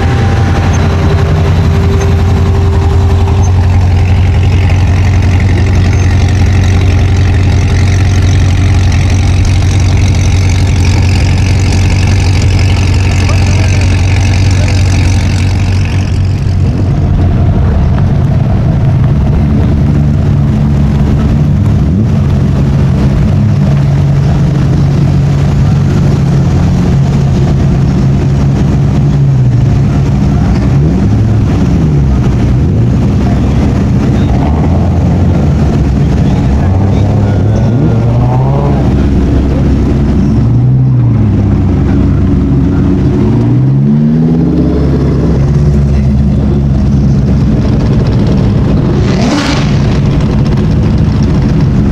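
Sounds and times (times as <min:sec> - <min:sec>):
car engines idling loudly: 0:00.0 - 0:51.9
engine throttle blips: 0:00.0 - 0:51.9.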